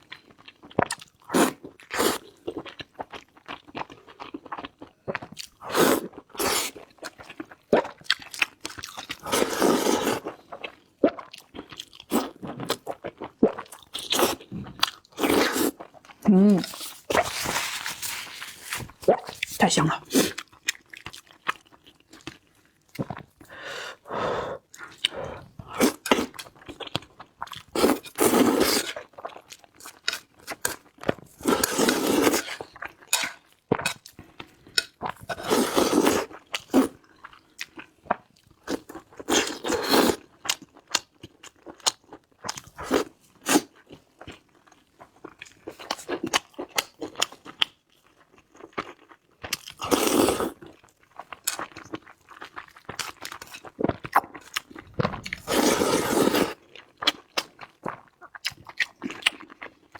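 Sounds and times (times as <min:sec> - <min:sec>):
person chewing: 0:00.2 - 0:44.4, 0:45.2 - 0:59.9.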